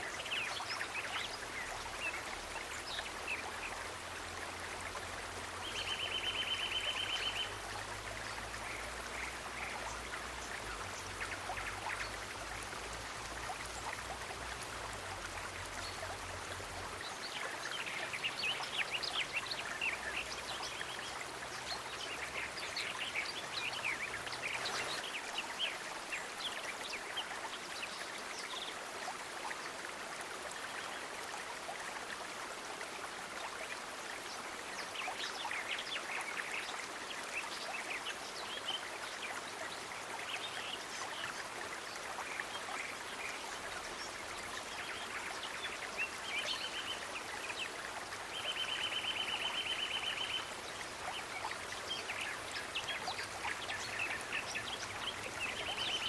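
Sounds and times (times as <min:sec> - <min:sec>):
stream running water: 0:00.0 - 0:56.0.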